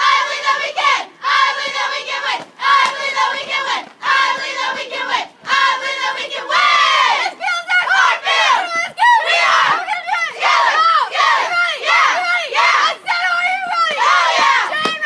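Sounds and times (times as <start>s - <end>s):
girls chanting a cheer in unison: 0.0s - 15.0s.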